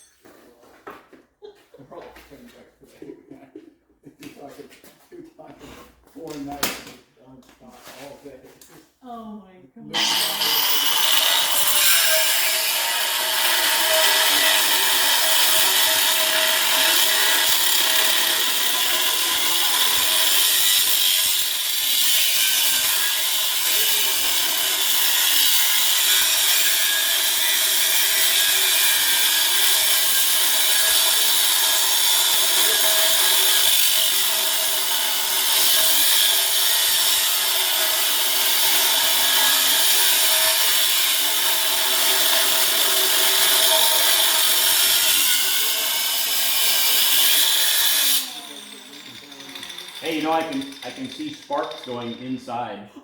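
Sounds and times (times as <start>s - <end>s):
angle grinder cutting steel: 9.9s - 52.7s.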